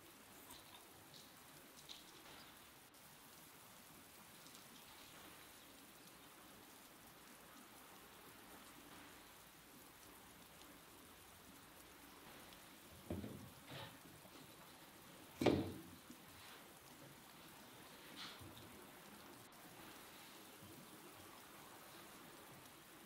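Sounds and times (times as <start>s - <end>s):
faint patter-like hiss: 0.0s - 23.0s.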